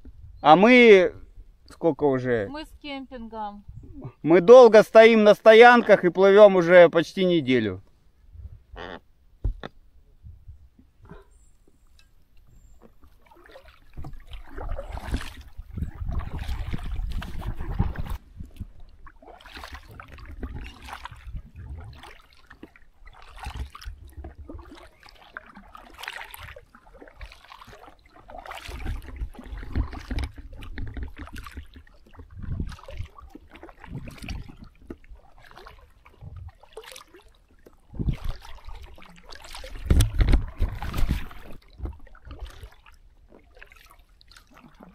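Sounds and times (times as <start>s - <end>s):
paddles splashing in water: 4.0s - 7.7s, 10.8s - 44.9s.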